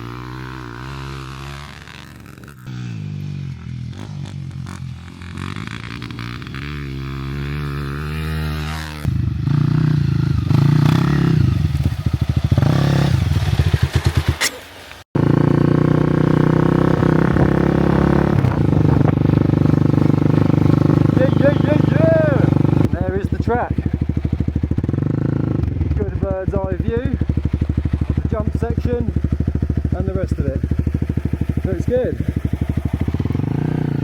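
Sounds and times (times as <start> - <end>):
dirt bike engine running: 0.0 - 14.5, 15.2 - 34.0.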